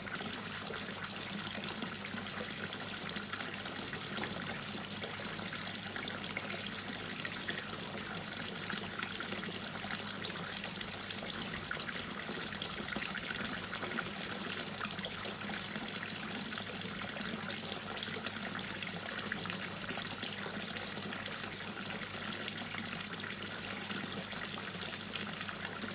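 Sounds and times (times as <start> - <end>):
running water trickle: 0.0 - 25.9
water dripping into pond: 0.0 - 25.9.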